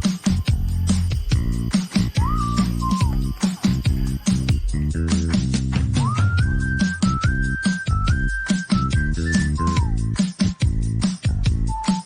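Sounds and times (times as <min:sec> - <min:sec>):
background music with beat and bass: 0:00.0 - 0:12.0
whistled melody: 0:00.0 - 0:12.0.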